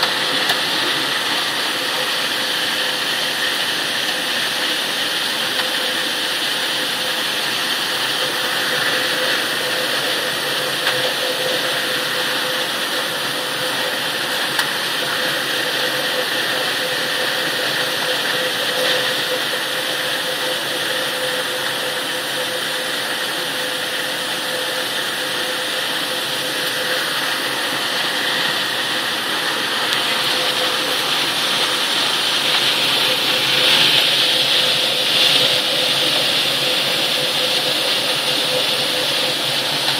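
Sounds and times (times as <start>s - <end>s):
processing machinery drone: 0.0s - 39.9s.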